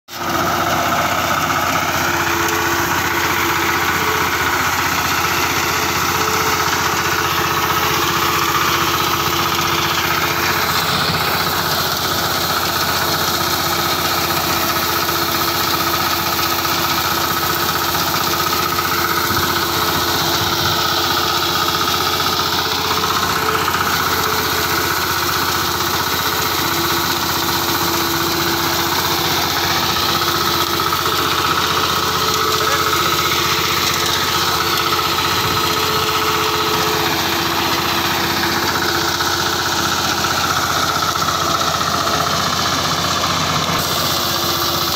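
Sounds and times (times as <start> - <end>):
small petrol engine running: 0.1 - 44.9.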